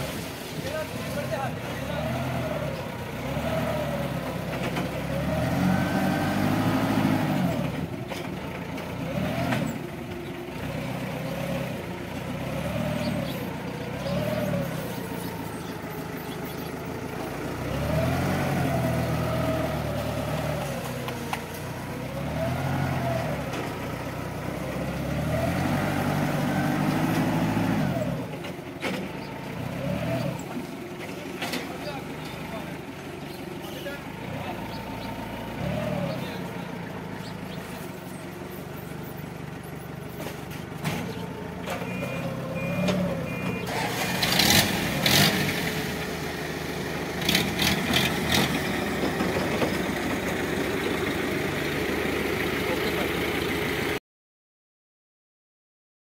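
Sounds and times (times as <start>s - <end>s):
forklift engine revving: 0.0s - 54.0s.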